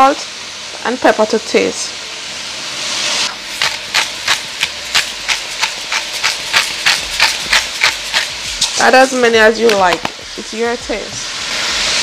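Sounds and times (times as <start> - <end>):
vegetables hissing in a hot pan: 0.0 - 12.0
seasoning grinder strokes: 1.0 - 12.0.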